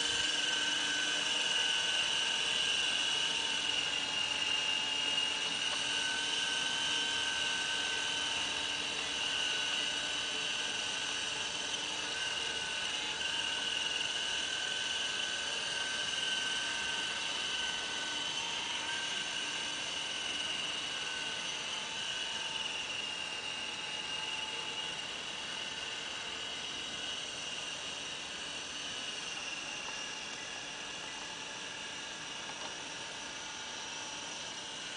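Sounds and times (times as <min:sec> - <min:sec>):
helicopter motor and rotor whine: 0:00.0 - 0:34.9.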